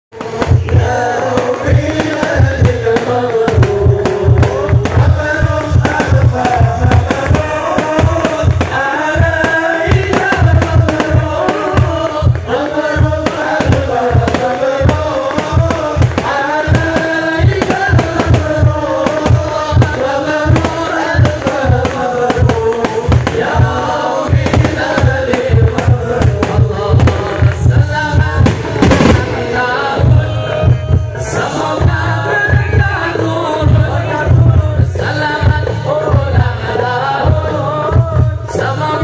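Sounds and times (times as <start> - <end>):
devotional song over loudspeakers: 0.1 - 39.0
hand drums beating: 0.2 - 36.6.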